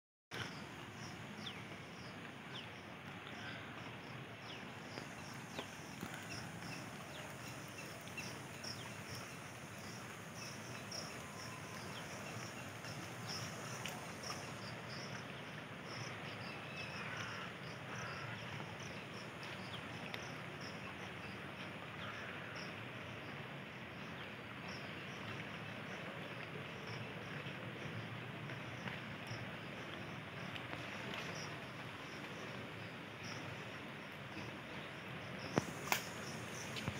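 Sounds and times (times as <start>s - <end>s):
insects chirping: 0.3s - 23.4s, 26.3s - 36.9s
fast-flowing water rushing: 0.4s - 36.9s.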